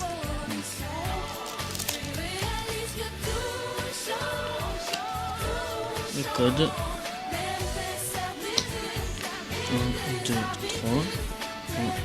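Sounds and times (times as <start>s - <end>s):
pop music with singing: 0.0s - 12.0s.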